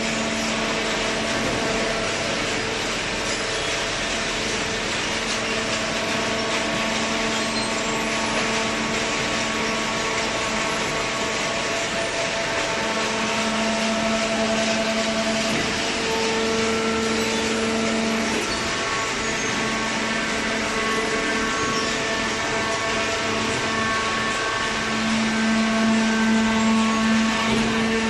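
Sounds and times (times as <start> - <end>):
baler machine hum: 0.0 - 28.0.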